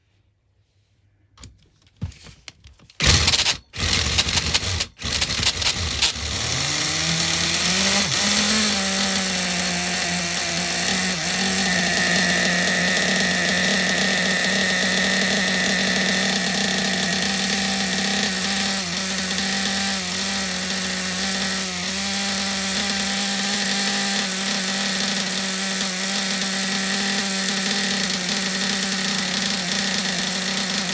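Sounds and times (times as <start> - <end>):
engine cranking: 3.0 - 30.9
small engine running: 3.0 - 30.9.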